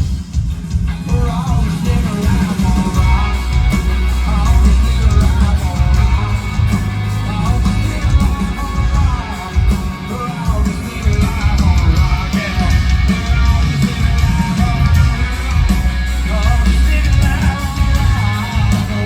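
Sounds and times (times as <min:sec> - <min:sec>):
drums: 0:00.0 - 0:19.0
electric guitar: 0:00.0 - 0:19.0
heavy bass notes: 0:00.0 - 0:19.0
live rock band playing: 0:00.0 - 0:19.0.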